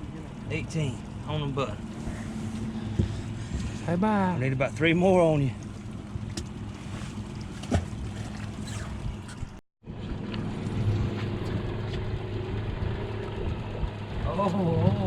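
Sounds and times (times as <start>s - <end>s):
water noise: 0.0s - 15.0s.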